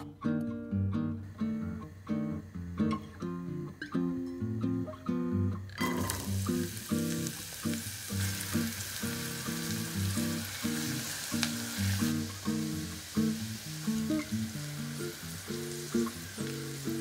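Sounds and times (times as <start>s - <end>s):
onion sizzling in hot oil: 1.4s - 17.0s.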